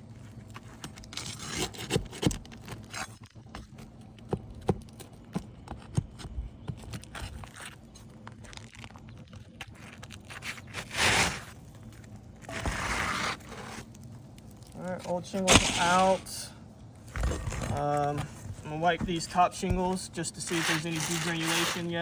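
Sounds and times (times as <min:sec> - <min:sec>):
shingles scraping: 0:00.0 - 0:22.0.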